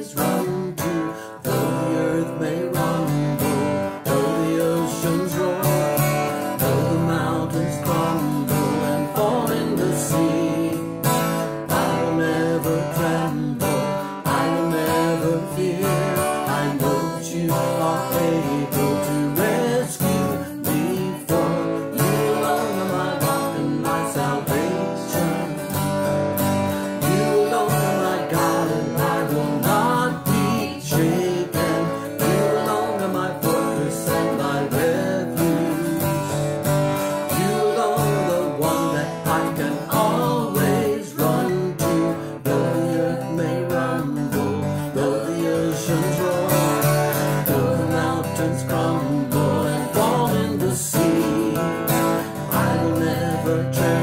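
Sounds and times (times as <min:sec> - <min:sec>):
acoustic guitar strummed: 0:00.0 - 0:54.0
man and woman singing: 0:00.0 - 0:54.0.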